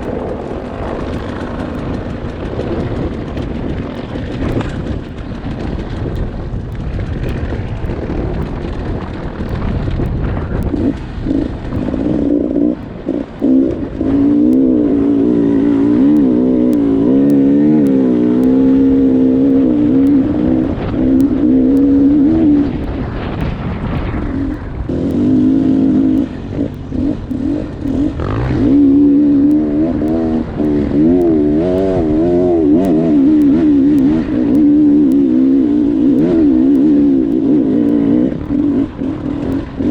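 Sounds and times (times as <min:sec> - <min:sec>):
low rumble: 0:00.0 - 0:39.9
dirt bike engine revving: 0:06.9 - 0:39.9.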